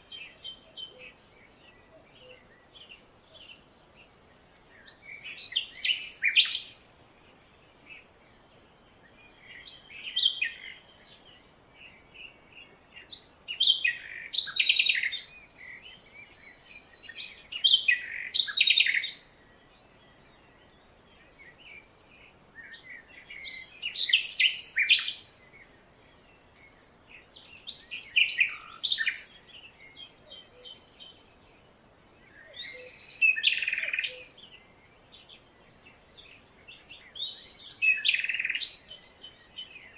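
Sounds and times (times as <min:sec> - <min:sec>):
bird singing chirpy phrases: 0:00.0 - 0:39.9.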